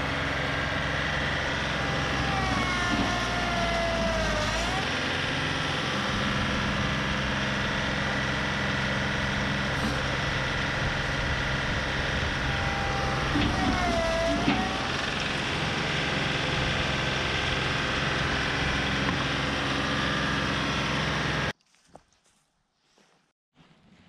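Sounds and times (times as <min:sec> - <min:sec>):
hydraulic whine: 0:00.0 - 0:21.5
tractor diesel engine running: 0:00.0 - 0:21.6.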